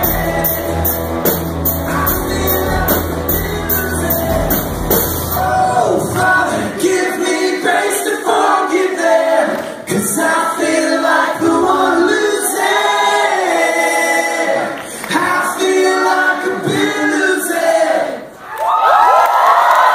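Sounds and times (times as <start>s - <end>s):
crowd singing a cappella: 0.0s - 18.4s.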